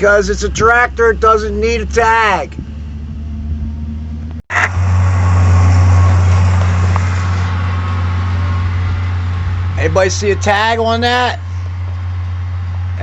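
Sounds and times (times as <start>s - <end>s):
road noise: 0.0s - 13.0s
tractor engine droning: 0.0s - 13.0s.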